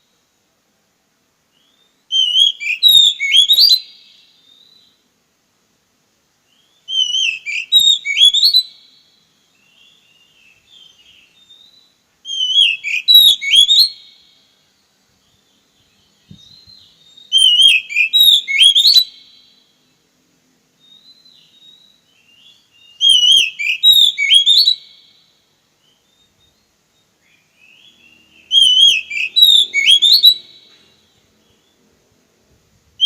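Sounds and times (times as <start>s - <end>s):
bird singing whistles: 1.5s - 5.0s, 6.5s - 14.3s, 15.2s - 19.7s, 20.8s - 31.8s.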